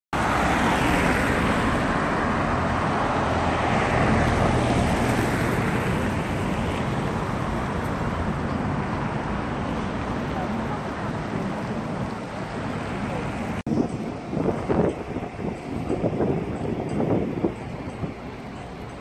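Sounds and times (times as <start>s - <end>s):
cars driving past: 0.2s - 19.0s.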